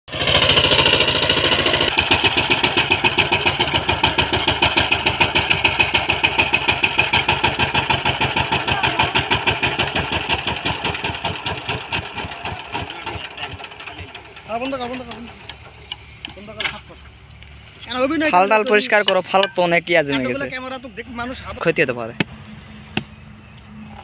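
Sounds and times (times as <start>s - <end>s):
diesel engine chugging: 0.1s - 24.0s.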